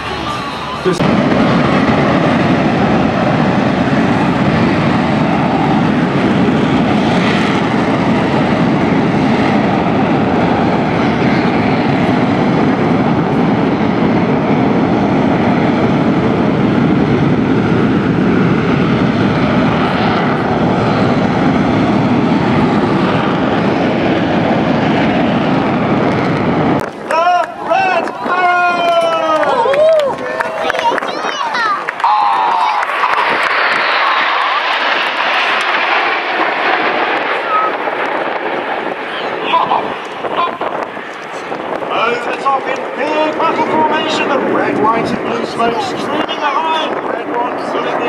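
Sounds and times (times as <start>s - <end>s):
jet engines at high power: 0.0s - 48.0s.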